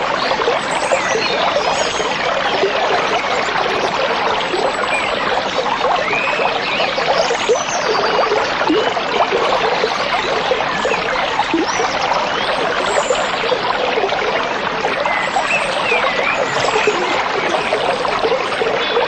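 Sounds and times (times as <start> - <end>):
stream running and trickling: 0.0 - 19.0.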